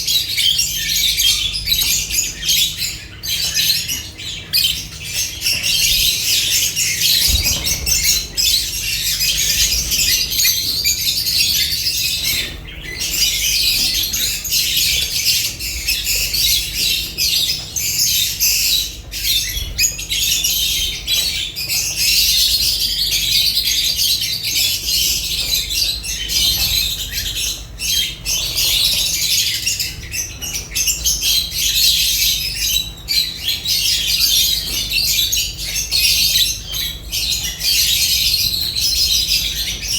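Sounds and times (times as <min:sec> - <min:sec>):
lovebirds chattering and squawking: 0:00.0 - 0:39.9.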